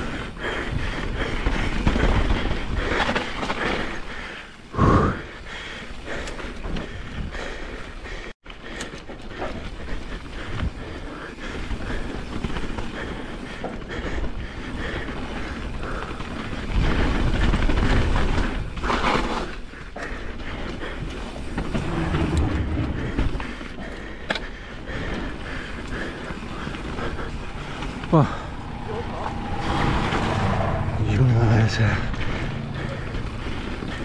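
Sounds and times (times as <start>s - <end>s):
bike rattling: 0.0s - 34.0s
bike tyres rumbling over dirt: 0.0s - 34.0s.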